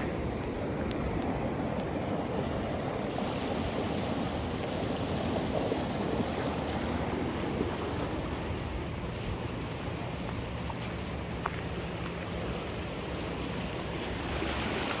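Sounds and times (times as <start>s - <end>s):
floodwater rushing under bridge: 0.0s - 15.0s.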